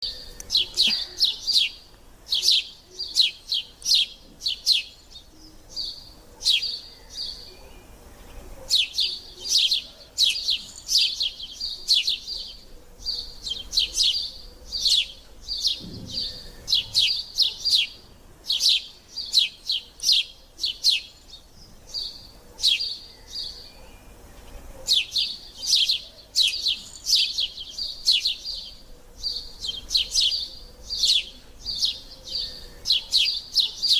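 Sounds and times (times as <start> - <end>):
sparrows chirping: 0.0 - 33.9.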